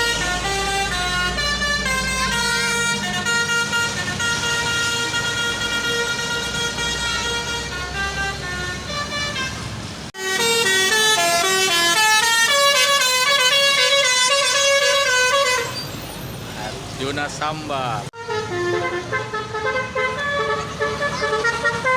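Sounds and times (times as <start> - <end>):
multi-tone bus horn melody: 0.0 - 16.0, 18.1 - 21.9
bus engine running: 0.0 - 21.9.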